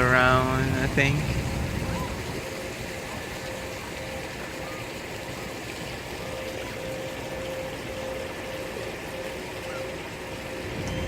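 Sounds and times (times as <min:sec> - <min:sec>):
faint steady tone: 0:00.0 - 0:11.0
traffic hum: 0:00.0 - 0:11.0.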